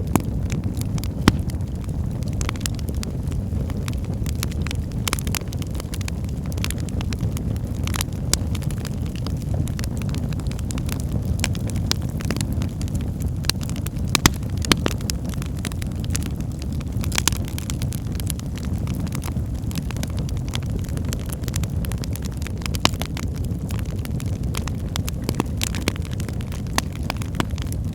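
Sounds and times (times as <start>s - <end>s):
burning logs crackling and popping: 0.0s - 27.9s
fire rumbling in fireplace: 0.0s - 27.9s.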